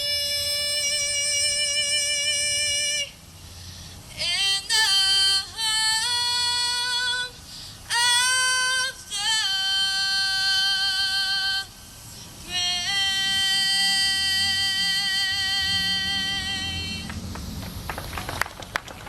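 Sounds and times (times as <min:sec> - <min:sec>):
woman singing: 0:00.0 - 0:03.2, 0:04.1 - 0:17.2.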